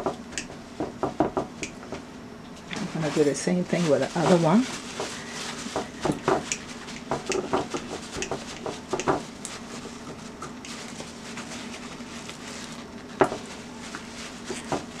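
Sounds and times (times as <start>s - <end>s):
paper towel rustling and tapping: 2.8s - 15.0s.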